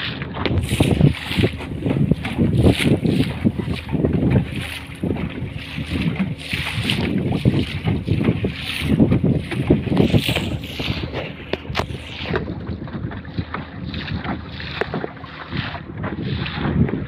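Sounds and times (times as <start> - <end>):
water slapping against hull: 0.0 - 17.0
wind buffeting microphone: 0.0 - 17.0.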